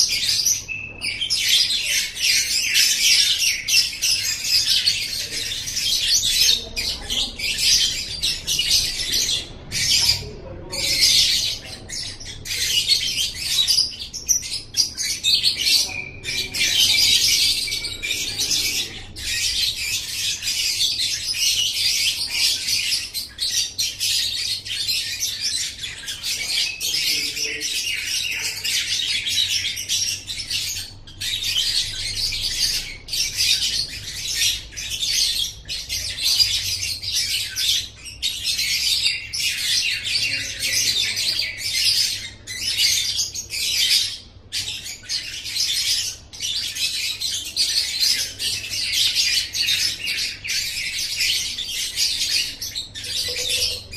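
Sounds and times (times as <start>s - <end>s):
lovebird chattering song: 0.0s - 53.9s.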